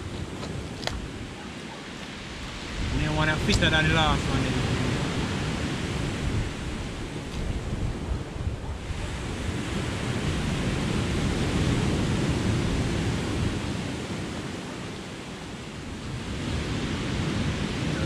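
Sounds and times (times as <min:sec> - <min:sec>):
sea surf washing ashore: 0:00.0 - 0:18.0.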